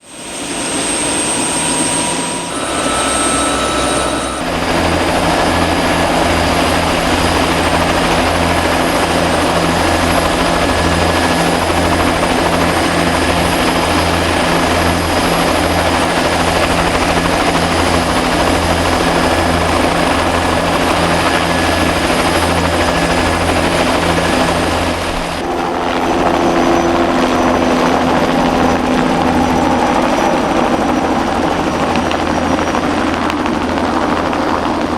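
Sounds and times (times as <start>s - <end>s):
helicopter rotor beat: 0.0s - 34.9s
helicopter turbine whine: 0.0s - 34.9s.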